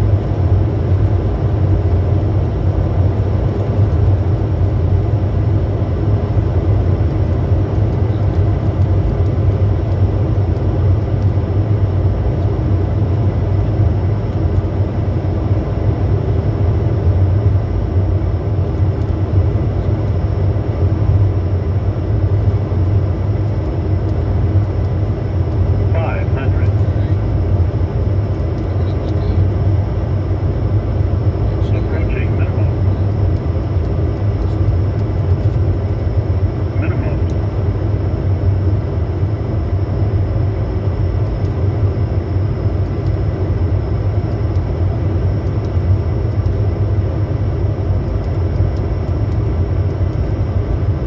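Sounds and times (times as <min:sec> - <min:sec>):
jet cockpit rumble: 0:00.0 - 0:51.0.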